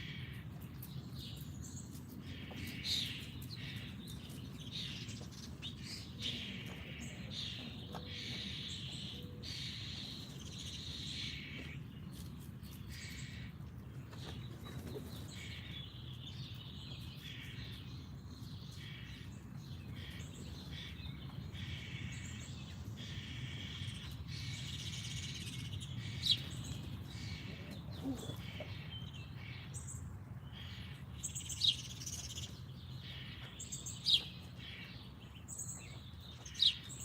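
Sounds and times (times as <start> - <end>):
songbirds chirping and singing: 0.0 - 37.0.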